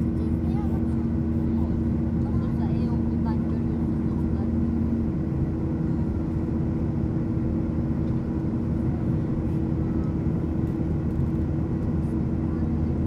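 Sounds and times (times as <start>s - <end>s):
airplane cabin drone: 0.0s - 13.0s.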